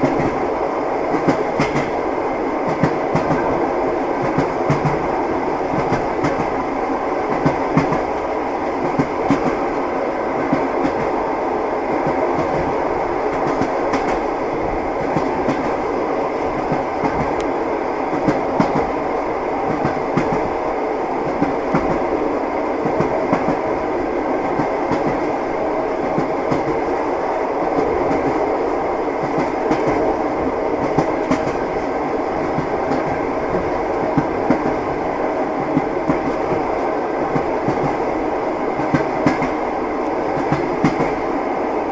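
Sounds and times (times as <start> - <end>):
train wheels clattering over rails: 0.0 - 11.2, 11.9 - 20.6, 21.2 - 22.1, 22.8 - 23.8, 24.4 - 28.5, 29.2 - 41.3.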